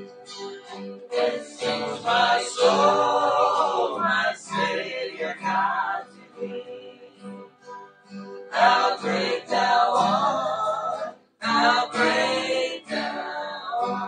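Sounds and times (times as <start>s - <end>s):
voices singing a worship song: 0.0s - 7.6s, 8.4s - 14.0s
plucked acoustic guitar: 0.0s - 14.0s.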